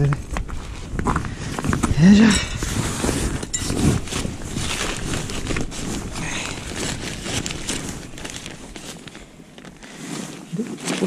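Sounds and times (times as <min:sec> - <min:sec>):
wind rumble on microphone: 0:00.0 - 0:08.9
tent fabric rustling on ice: 0:00.0 - 0:11.0.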